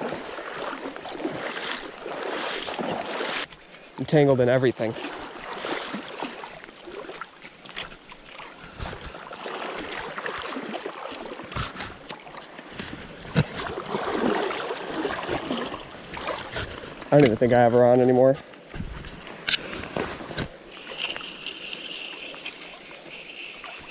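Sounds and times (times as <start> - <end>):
creek water splashing around legs: 0.0 - 23.9.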